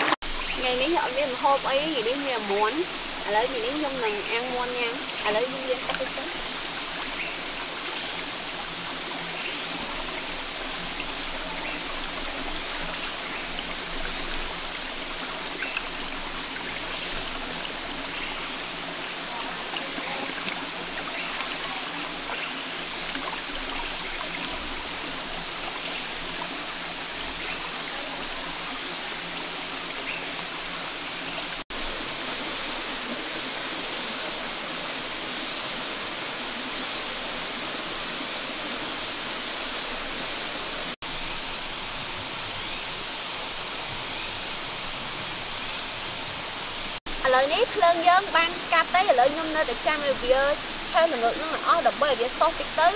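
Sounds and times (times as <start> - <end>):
stream flowing over rocks: 0.0 - 52.9.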